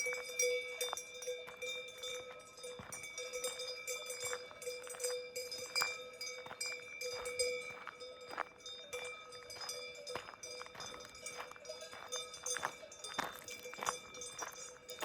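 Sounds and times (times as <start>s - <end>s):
cowbells clanking: 0.0s - 15.0s.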